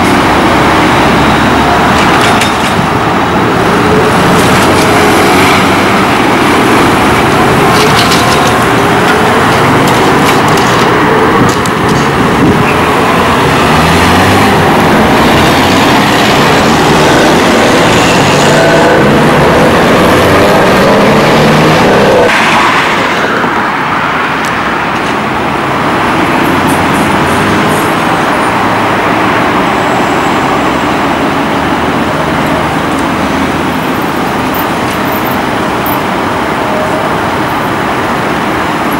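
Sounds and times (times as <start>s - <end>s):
cars passing: 0.0s - 38.9s
street traffic noise: 0.0s - 38.9s.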